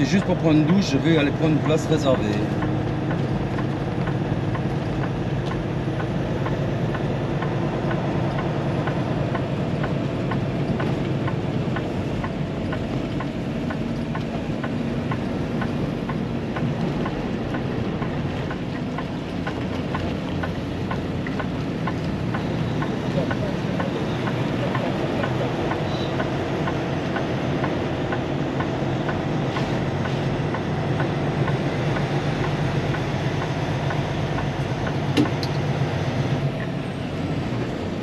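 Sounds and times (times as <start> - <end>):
diesel truck engine running: 0.0 - 38.0
faint regular tick: 1.7 - 35.6.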